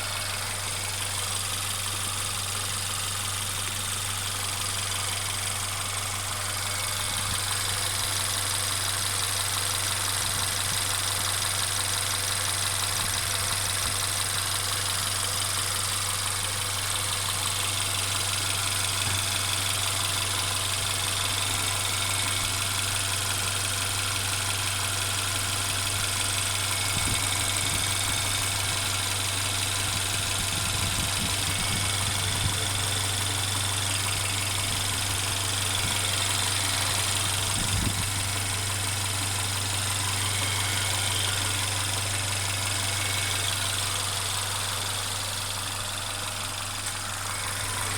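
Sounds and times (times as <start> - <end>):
car engine running: 0.0 - 47.9
engine rattling noise: 0.0 - 47.9.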